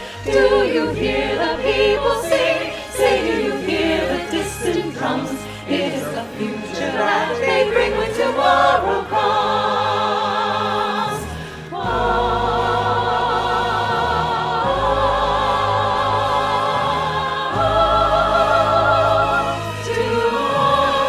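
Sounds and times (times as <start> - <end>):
choir singing with accompaniment: 0.0 - 21.0.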